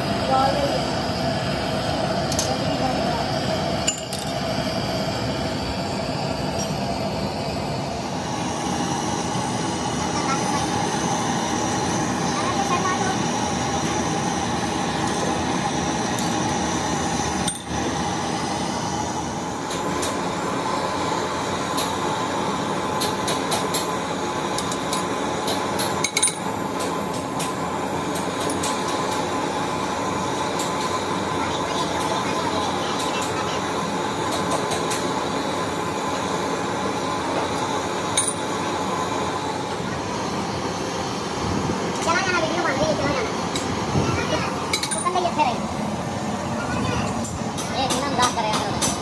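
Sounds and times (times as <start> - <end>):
gas torch flame roaring: 0.0 - 49.0.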